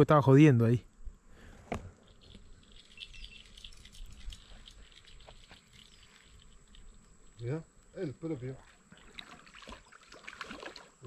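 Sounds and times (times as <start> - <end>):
small birds chirping: 1.3 - 10.2.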